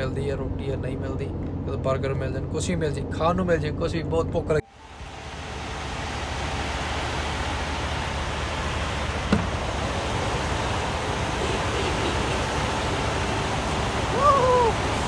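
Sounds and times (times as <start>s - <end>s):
vehicle hum and hiss: 0.0s - 15.0s.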